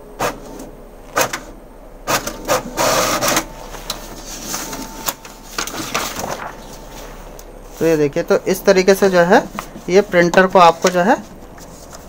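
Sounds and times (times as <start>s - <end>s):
printer mechanism whirring: 0.0s - 12.0s.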